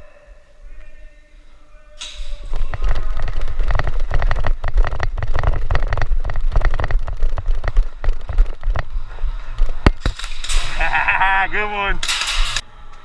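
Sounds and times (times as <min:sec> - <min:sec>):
handling rumble: 0:00.6 - 0:13.0
sharp clicks and rattles: 0:02.0 - 0:12.6.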